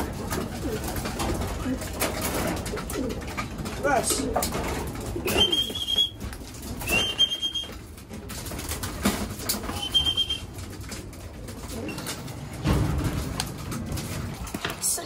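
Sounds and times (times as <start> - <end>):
pigeon wing flaps: 0.0 - 14.9.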